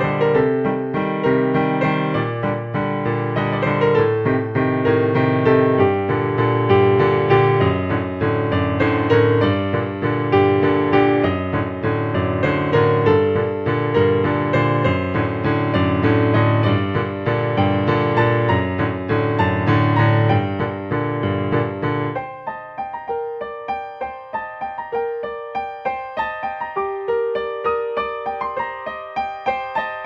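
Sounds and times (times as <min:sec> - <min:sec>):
piano piece: 0:00.0 - 0:30.0.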